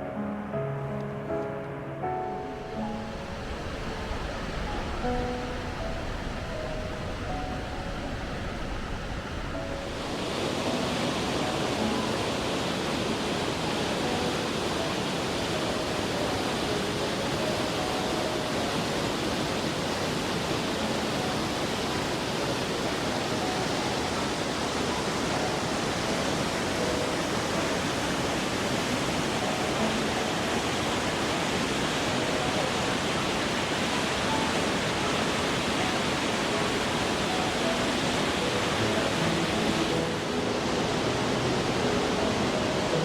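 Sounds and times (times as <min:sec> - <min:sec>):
waterfall rushing: 0:02.0 - 0:43.0.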